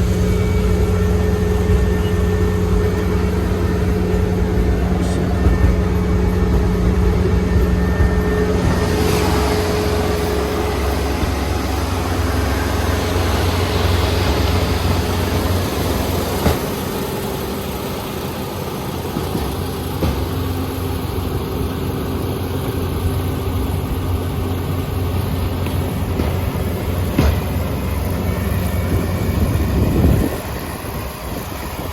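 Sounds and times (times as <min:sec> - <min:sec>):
harvester engine running: 0:00.0 - 0:31.9.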